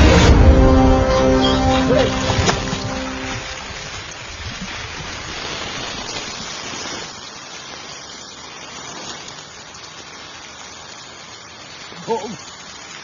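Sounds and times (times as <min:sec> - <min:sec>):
rushing hiss: 0:00.0 - 0:13.0.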